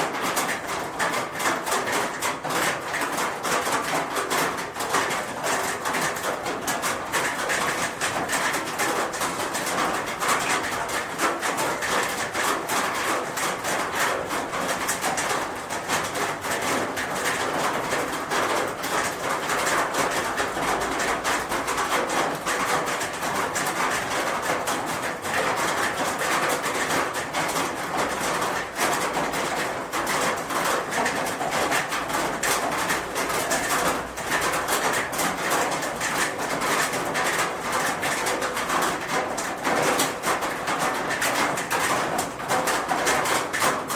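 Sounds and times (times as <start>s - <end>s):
rain pattering on a roof: 0.0s - 43.9s.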